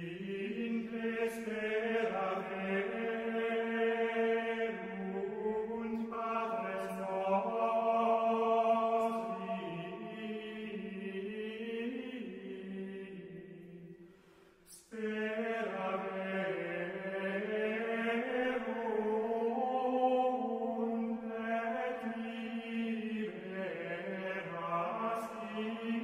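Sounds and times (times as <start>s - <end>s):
slow sacred chant singing: 0.0s - 26.0s.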